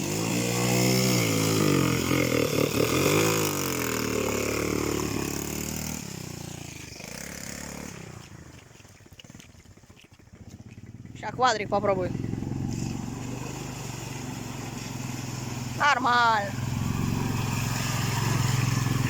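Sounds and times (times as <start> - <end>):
small motorcycle engine revving: 0.0 - 19.0.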